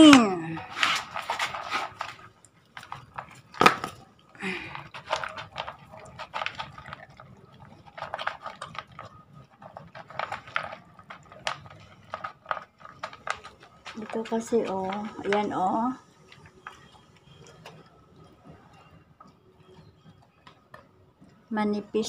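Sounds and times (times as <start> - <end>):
dog crunching dry kibble: 0.1 - 21.5.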